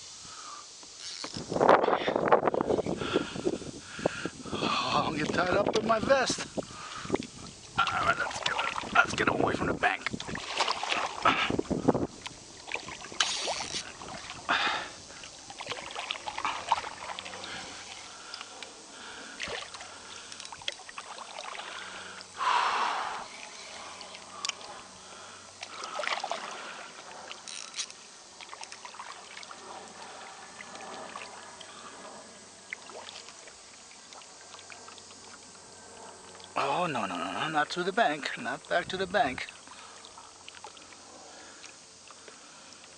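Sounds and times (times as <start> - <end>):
water splashing around kayak: 0.4 - 42.9.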